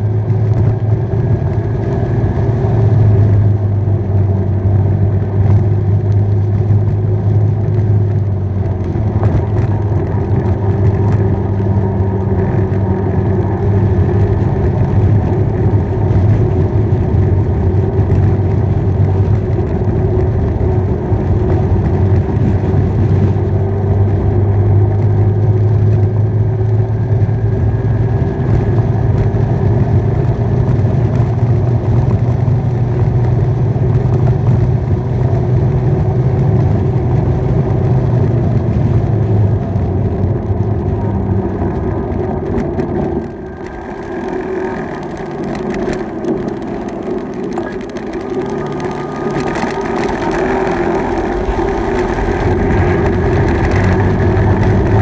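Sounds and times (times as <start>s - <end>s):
motorbike engine running: 0.0s - 55.0s
wind rumble on microphone: 0.0s - 55.0s.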